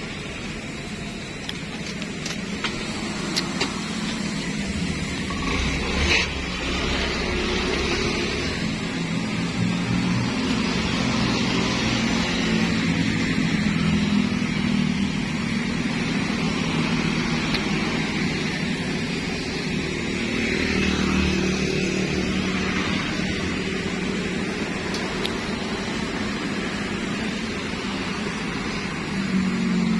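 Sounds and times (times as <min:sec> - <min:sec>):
motorcycles passing: 0:00.0 - 0:29.9
steady hiss of traffic: 0:00.0 - 0:29.9.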